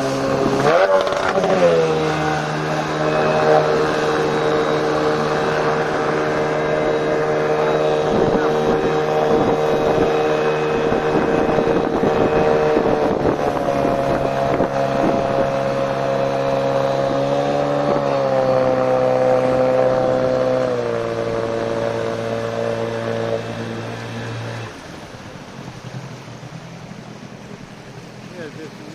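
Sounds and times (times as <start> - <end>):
wind on microphone: 0.0 - 24.8
outboard engine running: 0.0 - 28.9.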